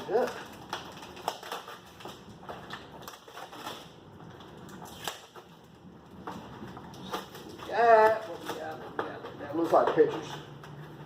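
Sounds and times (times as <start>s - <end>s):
tape crinkling: 0.0s - 11.0s.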